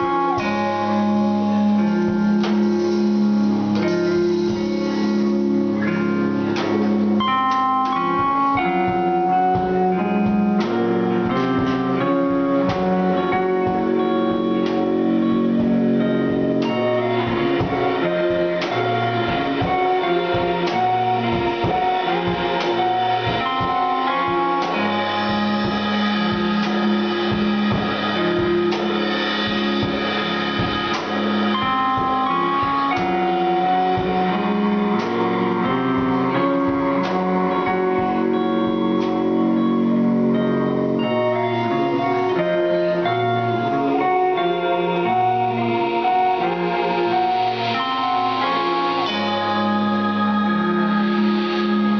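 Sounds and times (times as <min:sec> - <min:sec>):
drum kit: 0:00.0 - 0:51.9
guitar: 0:00.0 - 0:51.9.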